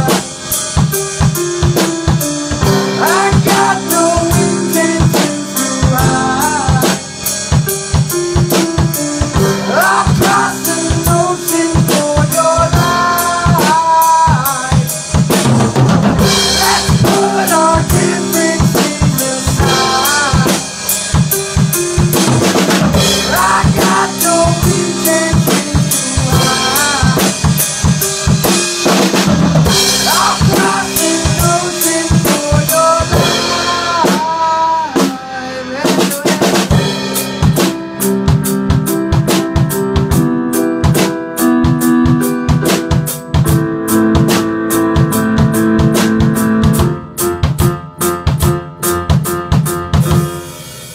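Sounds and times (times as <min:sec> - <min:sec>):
bending melody lines: 0:00.0 - 0:50.8
drum kit beat: 0:00.0 - 0:50.9.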